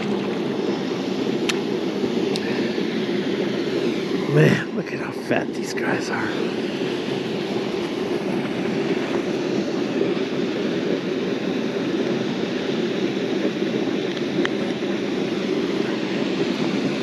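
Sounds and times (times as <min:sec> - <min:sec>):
loud steady drone: 0:00.0 - 0:17.0.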